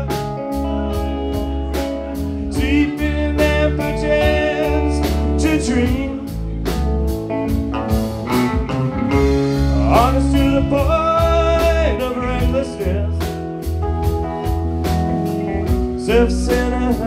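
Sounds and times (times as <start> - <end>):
live band playing blues-rock: 0.0 - 17.0.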